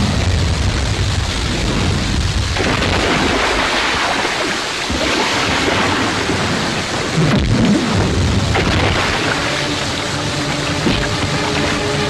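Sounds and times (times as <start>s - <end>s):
deep rumble: 0.0s - 12.0s
heavy rain pouring: 0.0s - 12.0s.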